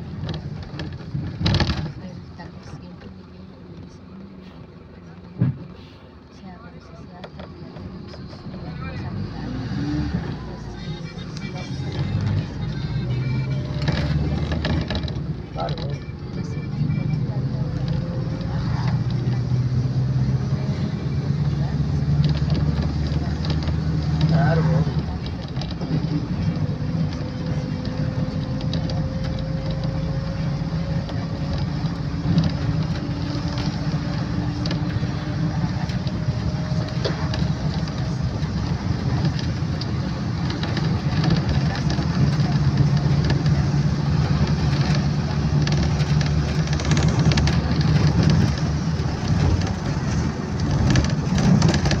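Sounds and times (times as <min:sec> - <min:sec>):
bus engine and road drone: 0:00.0 - 0:52.0.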